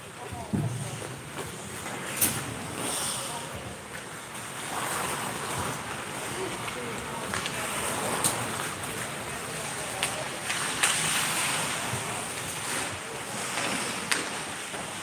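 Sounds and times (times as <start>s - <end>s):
skates scraping ice: 0.8s - 15.0s
steady rink hiss: 1.6s - 6.5s, 7.2s - 15.0s.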